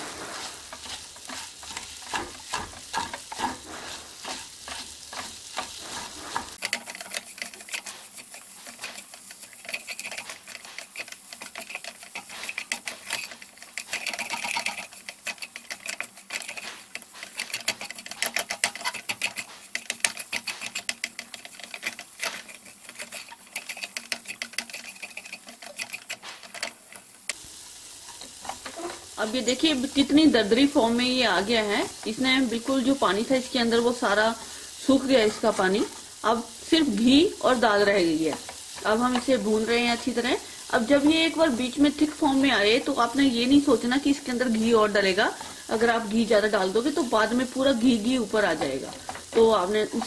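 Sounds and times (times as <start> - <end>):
dal frying in ghee: 0.0 - 50.0
spatula scraping a pan: 0.0 - 50.0.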